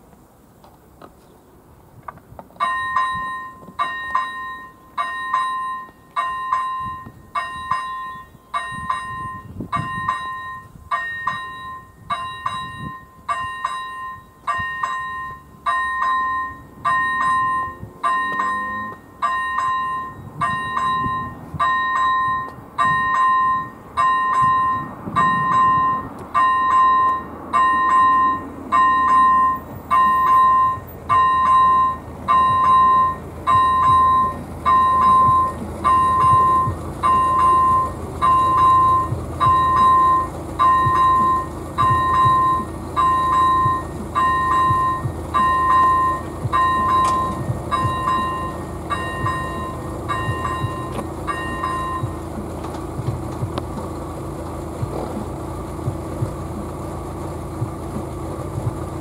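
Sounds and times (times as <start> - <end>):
two-tone electronic warning bell: 2.6 - 53.6.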